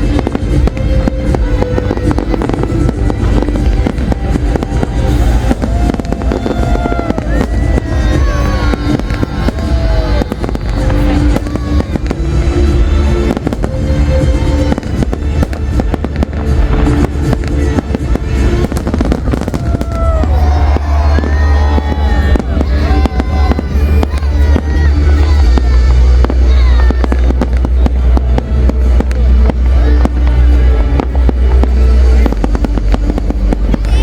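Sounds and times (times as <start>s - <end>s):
fireworks bangs and crackling: 0.0s - 34.0s
loud music: 0.0s - 34.0s.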